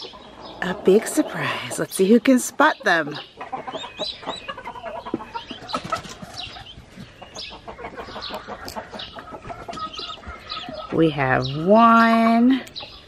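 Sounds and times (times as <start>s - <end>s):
chicks peeping: 0.0s - 13.0s
turkey hen clucking: 0.0s - 13.0s.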